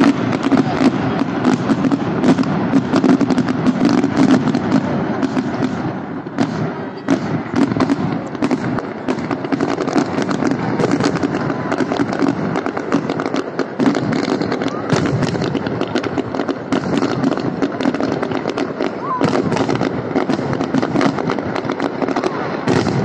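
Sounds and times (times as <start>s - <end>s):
fireworks exploding and crackling: 0.0s - 23.0s.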